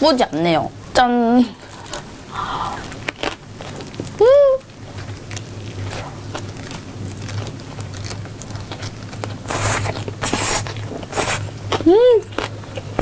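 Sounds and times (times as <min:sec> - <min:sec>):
low steady hum: 0:00.0 - 0:13.0
close chewing with mouth clicks: 0:01.6 - 0:13.0.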